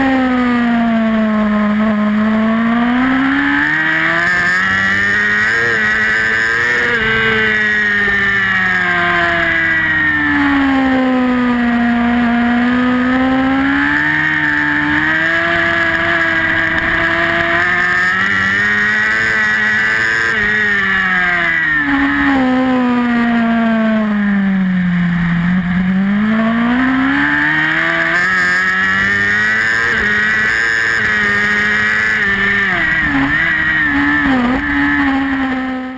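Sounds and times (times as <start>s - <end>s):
motorcycle engine at race pace: 0.0s - 35.9s.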